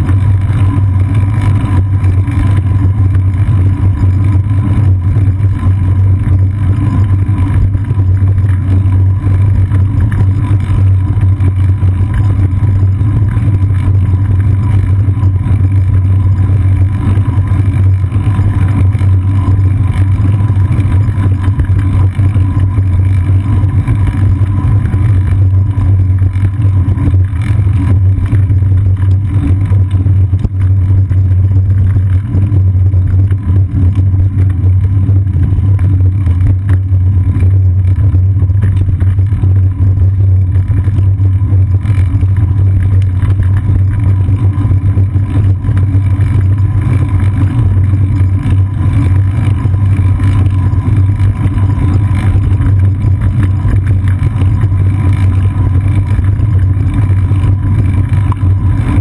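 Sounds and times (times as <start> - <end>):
bicycle road vibration: 0.0 - 59.0.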